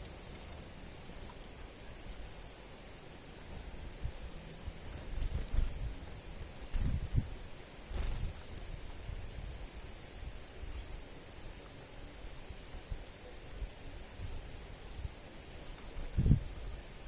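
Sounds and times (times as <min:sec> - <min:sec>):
small bird high-pitched calls: 0:00.3 - 0:11.2, 0:13.1 - 0:17.0.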